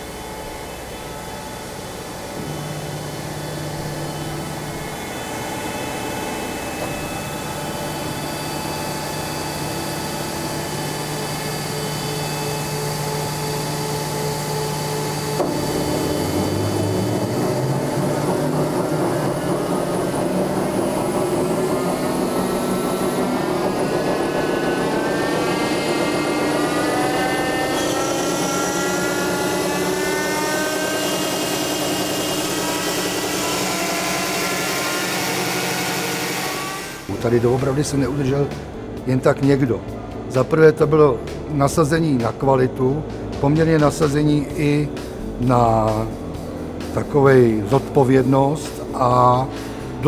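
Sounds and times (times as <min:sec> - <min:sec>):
fuel pump mechanical hum and whine: 0:00.0 - 0:50.0.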